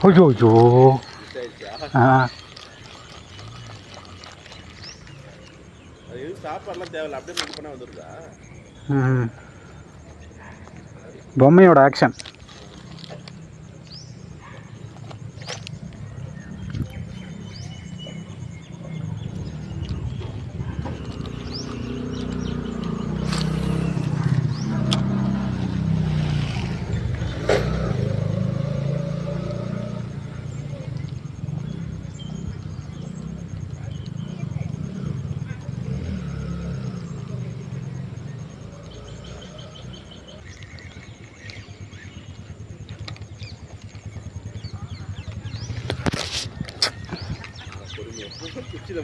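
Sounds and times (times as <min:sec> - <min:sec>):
small birds chirping: 0:00.0 - 0:49.0
vehicle engine running: 0:08.0 - 0:49.0.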